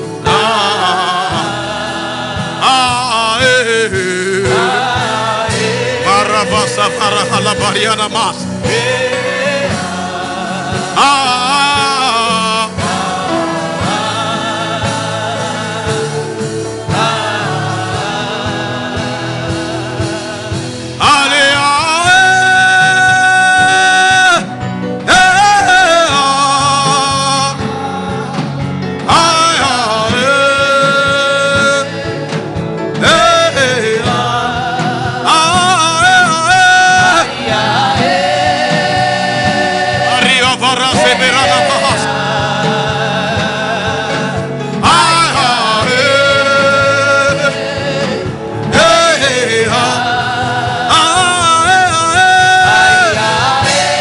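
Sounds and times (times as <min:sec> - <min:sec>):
gospel singing with accompaniment: 0:00.0 - 0:54.0.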